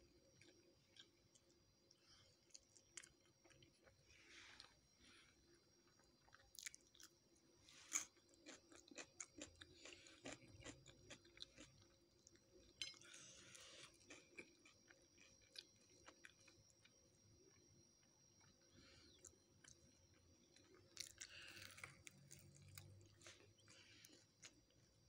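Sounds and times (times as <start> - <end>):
person chewing and crunching: 0.3 - 17.7, 18.4 - 24.8.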